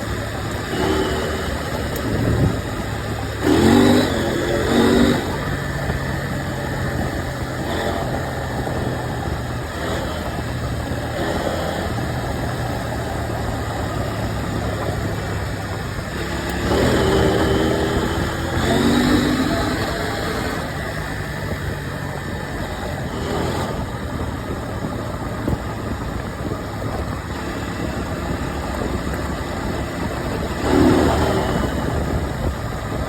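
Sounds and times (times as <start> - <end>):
motorcycle engine running: 0.0 - 33.0
steady rushing noise: 0.0 - 33.0.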